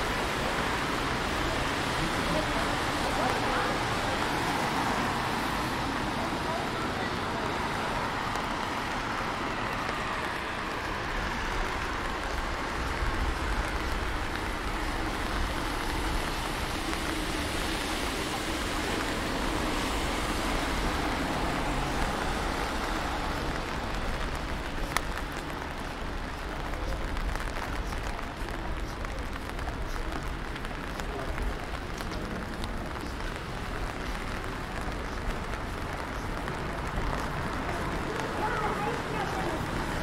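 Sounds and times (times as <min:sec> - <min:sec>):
car tyres on wet road: 0:00.0 - 0:40.0
rain hiss: 0:00.0 - 0:40.0.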